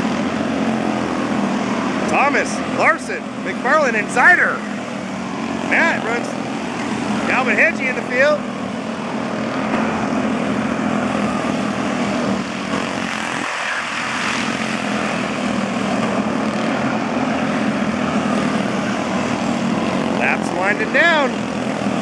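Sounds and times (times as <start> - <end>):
race car engines buzzing: 0.0 - 22.0.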